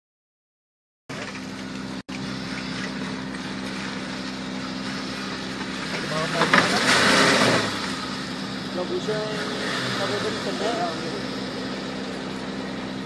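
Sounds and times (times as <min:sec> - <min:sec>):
small car engine droning: 0:01.1 - 0:13.0.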